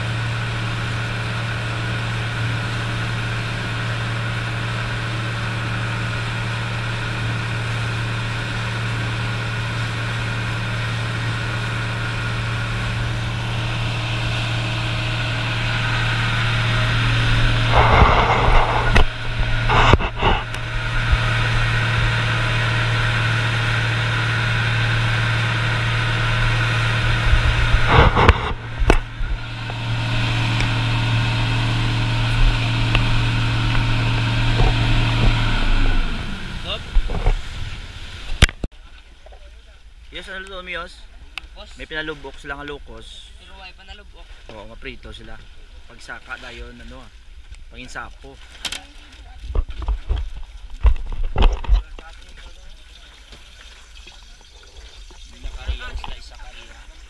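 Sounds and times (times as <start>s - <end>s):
boat engine droning: 0.0s - 57.0s
water rushing past hull: 0.0s - 57.0s.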